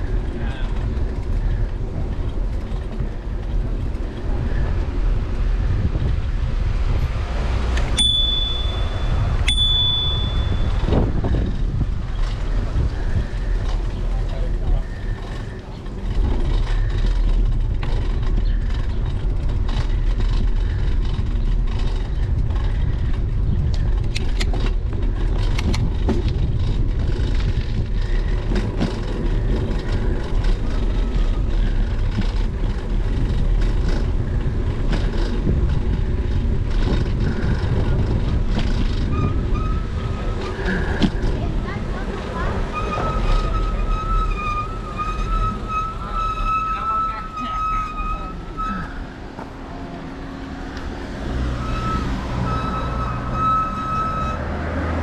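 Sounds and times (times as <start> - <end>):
bicycle tyres rolling on asphalt: 0.0 - 55.0
wind buffeting microphone: 0.0 - 55.0.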